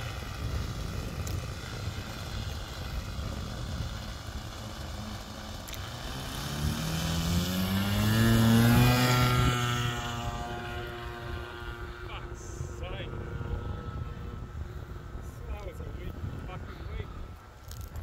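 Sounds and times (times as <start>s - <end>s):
model airplane propeller motor: 0.0s - 18.0s.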